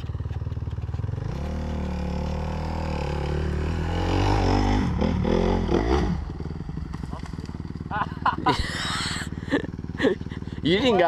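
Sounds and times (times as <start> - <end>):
dirt bike engine revving: 0.9 - 11.0.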